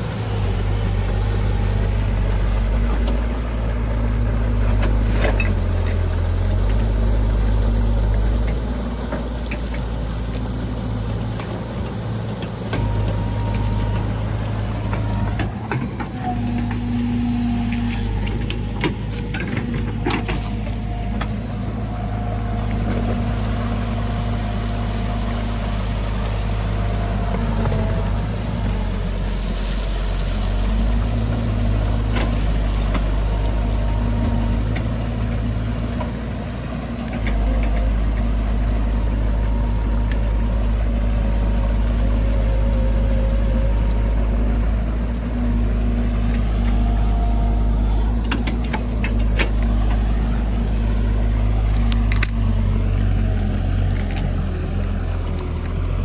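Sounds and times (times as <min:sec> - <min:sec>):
excavator diesel engine: 0:00.0 - 0:56.0
water rushing through canal: 0:00.0 - 0:56.0.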